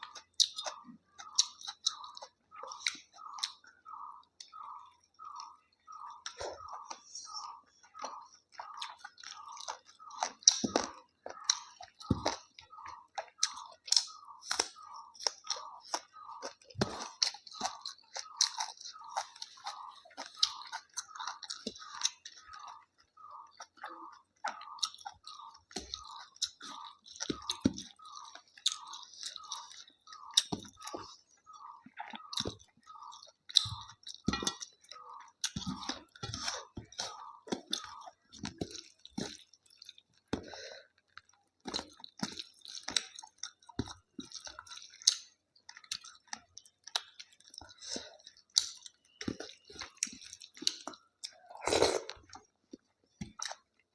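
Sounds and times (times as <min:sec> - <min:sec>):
chewing food: 0:00.0 - 0:53.9.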